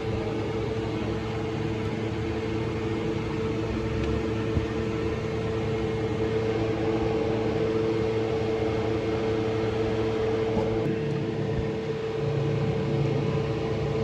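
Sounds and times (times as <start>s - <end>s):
machine humming steadily: 0.0s - 14.0s.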